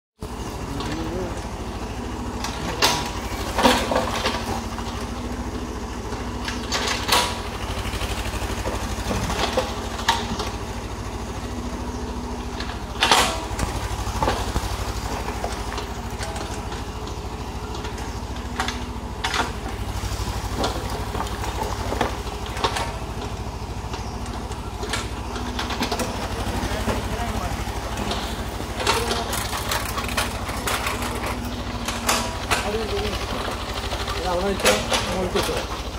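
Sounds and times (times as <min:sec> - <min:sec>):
excavator diesel engine running: 0:00.2 - 0:35.9.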